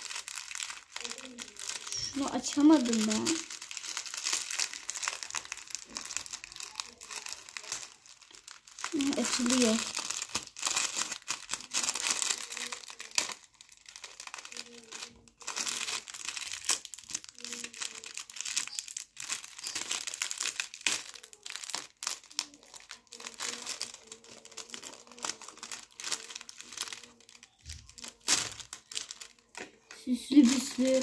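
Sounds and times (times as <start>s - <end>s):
plastic packet crinkling: 0.0s - 31.0s.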